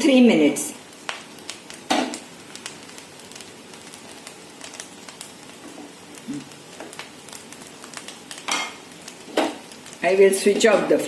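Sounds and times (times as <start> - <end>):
rice crackling in pan: 0.0 - 11.0.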